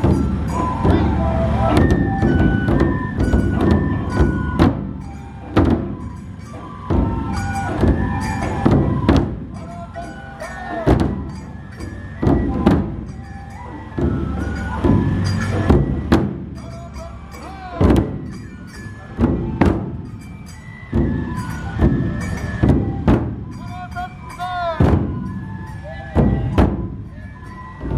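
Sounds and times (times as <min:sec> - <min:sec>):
bamboo flute melody: 0:00.0 - 0:27.9
heavy festival drum strokes: 0:00.0 - 0:27.9.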